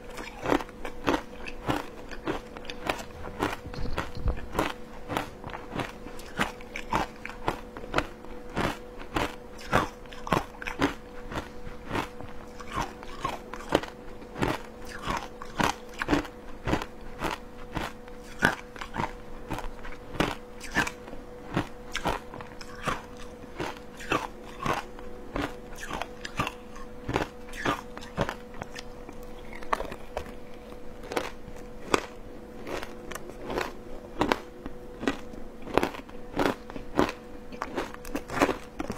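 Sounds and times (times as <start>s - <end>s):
faint hum: 0.0s - 38.9s
crunching shaved ice: 0.1s - 30.4s, 31.0s - 34.4s, 35.0s - 38.9s.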